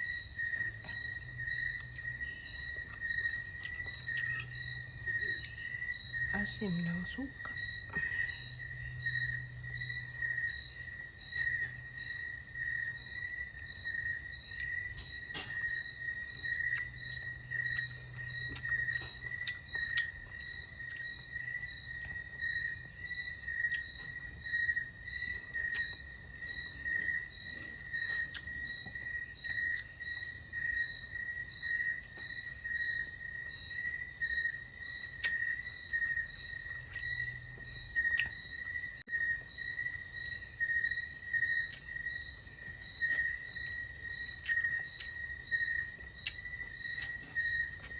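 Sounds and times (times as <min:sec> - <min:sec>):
insect pulsing trill: 0:00.0 - 0:47.9.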